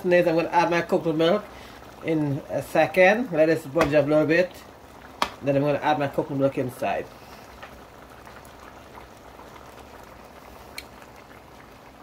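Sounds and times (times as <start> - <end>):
curry bubbling in pot: 0.0 - 12.0.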